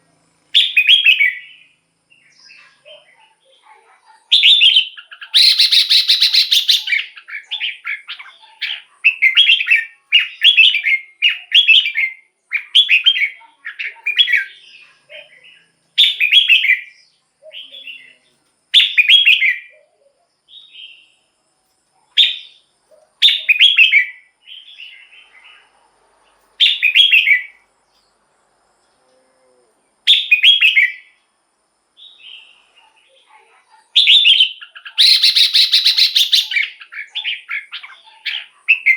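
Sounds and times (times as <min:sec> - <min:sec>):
bird warbling song phrases: 0:00.6 - 0:21.2, 0:22.0 - 0:25.7, 0:26.6 - 0:27.6, 0:29.4 - 0:31.2, 0:32.0 - 0:38.9.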